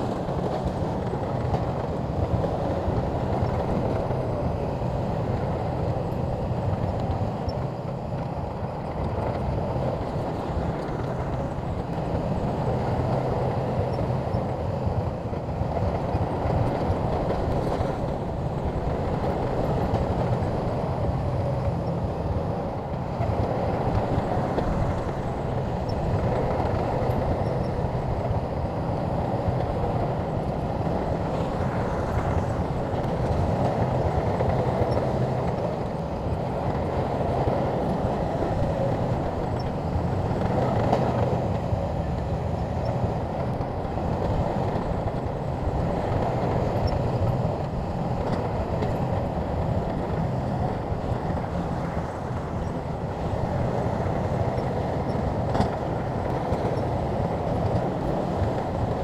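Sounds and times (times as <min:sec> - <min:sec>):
bulldozer diesel engine running: 0:00.0 - 0:59.0
tracks rumbling and clattering: 0:00.0 - 0:59.0.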